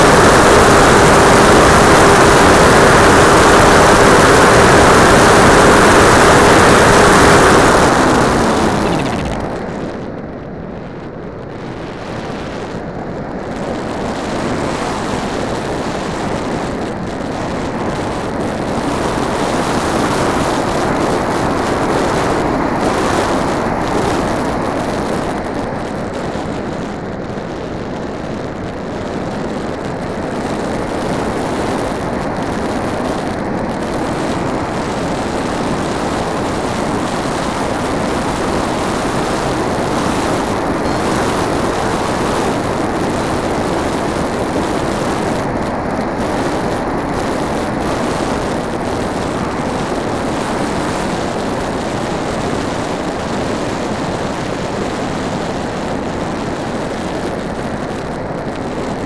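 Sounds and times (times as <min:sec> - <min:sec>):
airflow rushing: 0:00.0 - 0:59.0
model plane propeller: 0:00.0 - 0:59.0.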